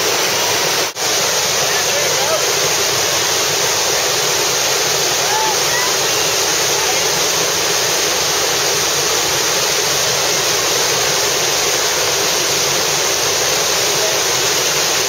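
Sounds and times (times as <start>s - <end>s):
loud rush of flowing water: 0.0s - 15.0s.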